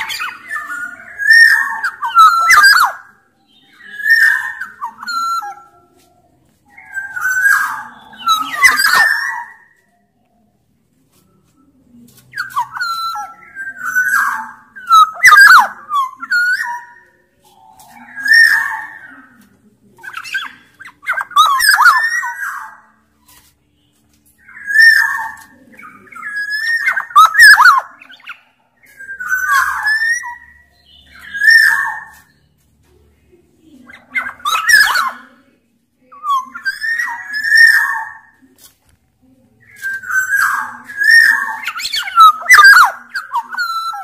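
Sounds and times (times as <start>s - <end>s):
bird singing whistled phrases: 0.0s - 5.9s, 6.7s - 9.8s, 12.3s - 19.3s, 20.0s - 23.4s, 24.4s - 32.5s, 34.0s - 35.2s, 36.1s - 38.4s, 39.7s - 44.0s.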